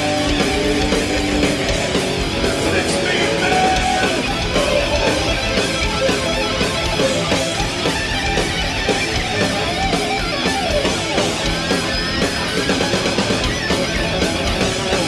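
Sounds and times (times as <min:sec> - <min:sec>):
distorted electric guitar lead: 0:00.0 - 0:15.0
metal band playing live: 0:00.0 - 0:15.0.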